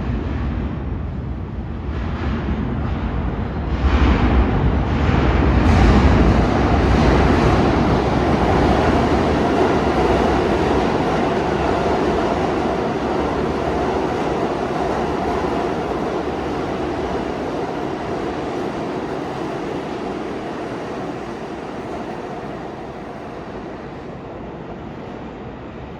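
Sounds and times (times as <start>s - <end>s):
subway train rumble and clatter: 0.0s - 25.9s.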